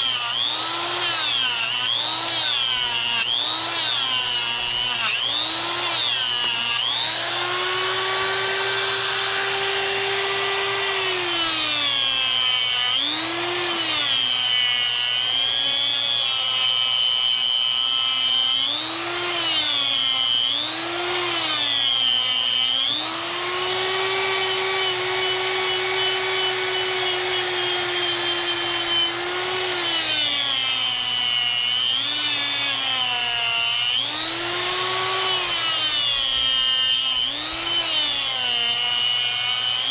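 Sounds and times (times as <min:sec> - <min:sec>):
die grinder carving wood: 0:00.0 - 0:39.9.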